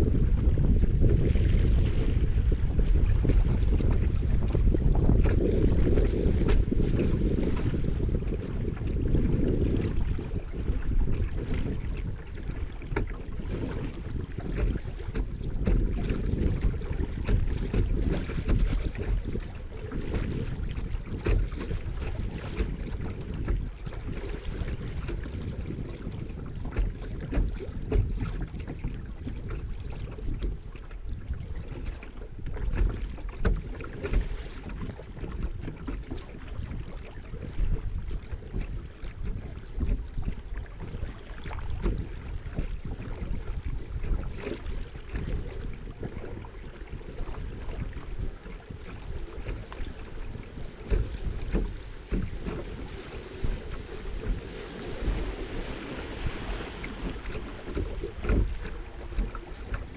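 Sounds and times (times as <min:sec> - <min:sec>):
water splashing against kayak hull: 0:00.0 - 0:59.9.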